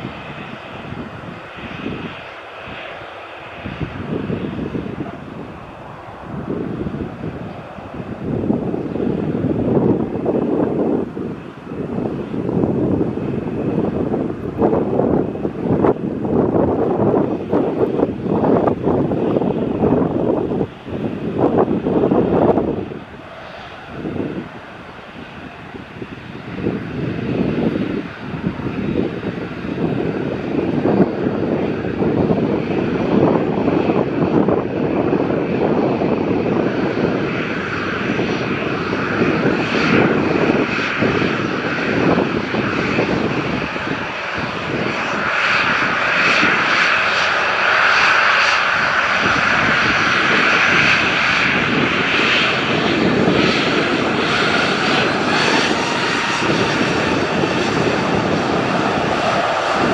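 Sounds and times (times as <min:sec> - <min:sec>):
airliner engines roaring: 0:00.0 - 0:59.9.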